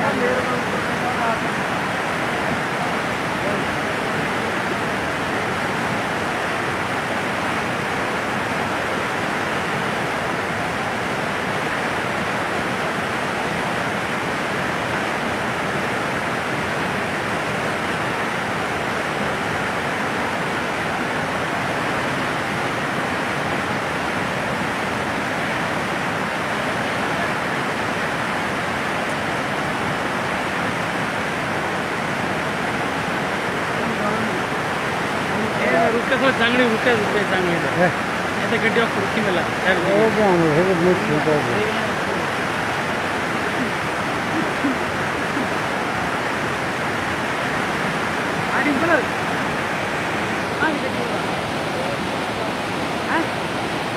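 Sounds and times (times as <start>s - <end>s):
river in flood rushing: 0.0s - 53.9s.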